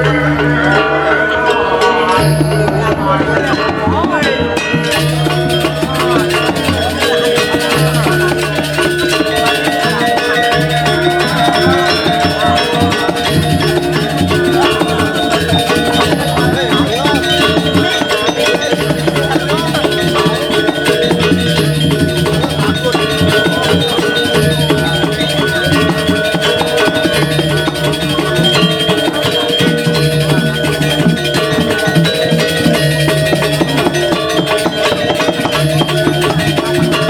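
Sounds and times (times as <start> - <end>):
gamelan music: 0.0 - 37.0.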